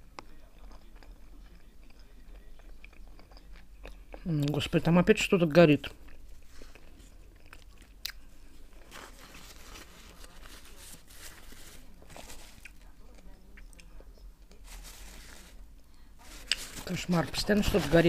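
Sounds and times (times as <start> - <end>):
faint chewing with crunches: 0.0 - 18.0.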